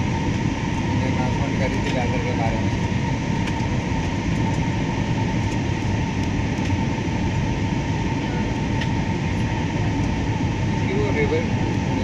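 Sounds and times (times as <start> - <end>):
airliner engines and airflow rumble: 0.0 - 12.0
faint steady whine: 0.0 - 12.0.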